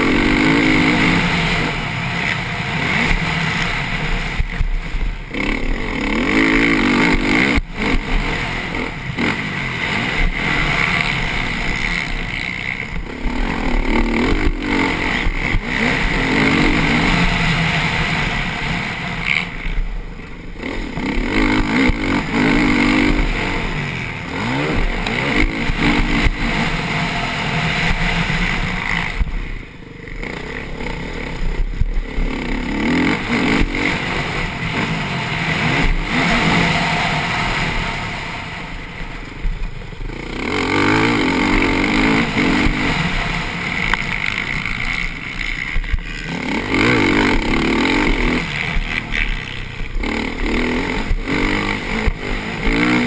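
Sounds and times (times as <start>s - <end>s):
motocross bike engine revving: 0.0s - 53.0s
wind and dirt noise: 0.0s - 53.0s.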